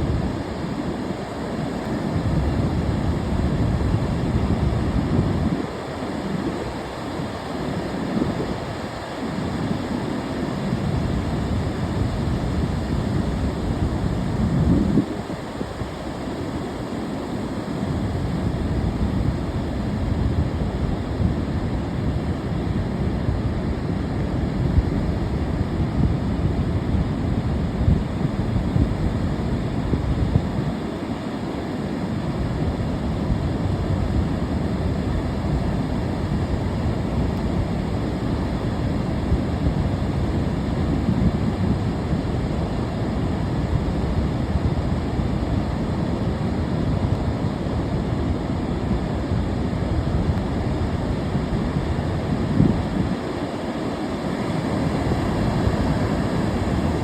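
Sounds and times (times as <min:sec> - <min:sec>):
wind buffeting microphone: 0:00.0 - 0:48.0
ocean surf breaking: 0:00.1 - 0:44.3, 0:50.6 - 0:57.0.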